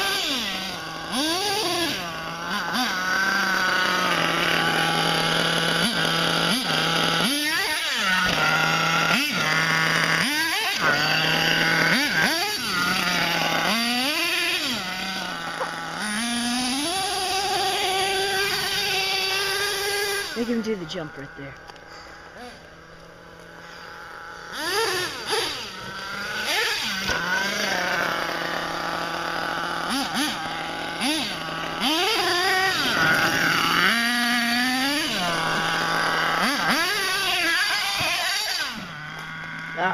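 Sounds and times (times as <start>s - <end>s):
small two-stroke engine revving: 0.0s - 39.9s.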